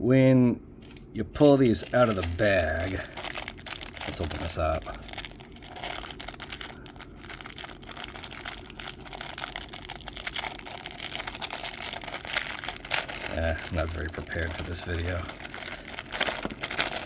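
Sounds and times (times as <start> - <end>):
plastic bag crinkling: 0.8 - 17.0.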